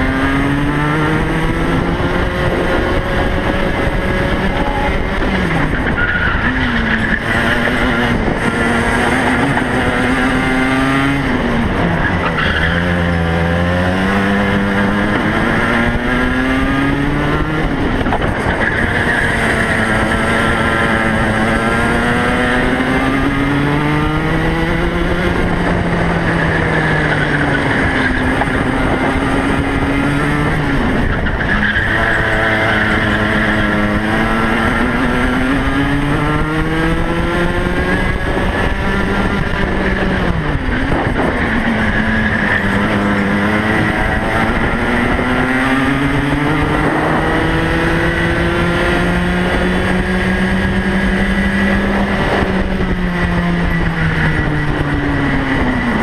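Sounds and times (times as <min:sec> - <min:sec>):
kart engine revving: 0:00.0 - 0:56.0
wind and track noise: 0:00.0 - 0:56.0.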